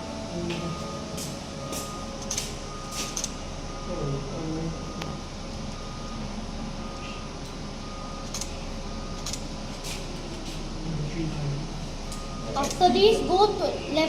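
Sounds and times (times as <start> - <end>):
machinery hum with whine: 0.0 - 14.0.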